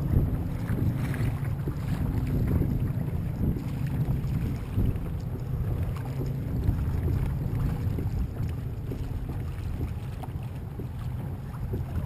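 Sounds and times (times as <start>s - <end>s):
waves lapping against hull: 0.0s - 12.0s
wind buffeting microphone: 0.0s - 12.0s.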